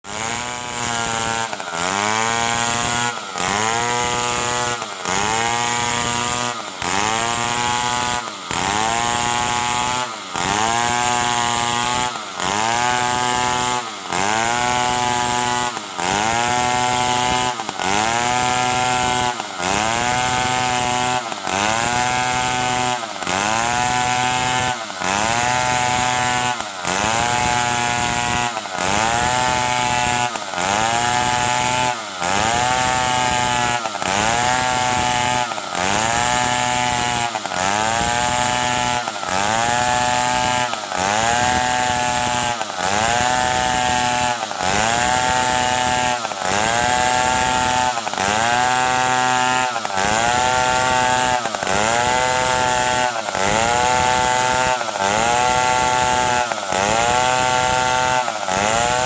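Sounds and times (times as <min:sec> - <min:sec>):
chainsaw running at high speed: 0:00.0 - 0:59.0.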